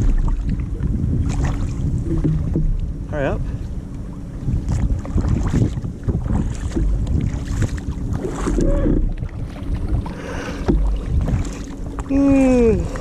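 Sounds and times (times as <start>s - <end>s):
kayak paddling in water: 0.0s - 13.0s
wind buffeting microphone: 0.0s - 13.0s.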